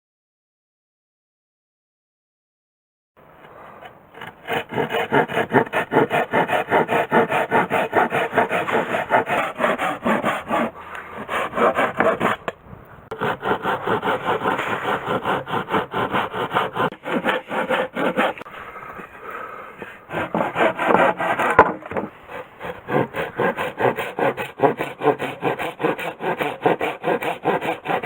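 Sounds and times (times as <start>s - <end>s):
hand saw cutting wood: 3.4s - 28.0s.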